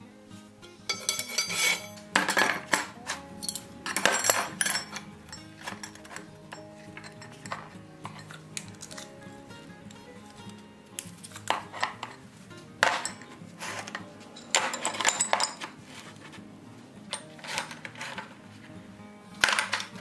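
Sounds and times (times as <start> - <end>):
soft background music: 0.0 - 20.0
metal irons clinking: 0.9 - 18.7, 19.3 - 20.0.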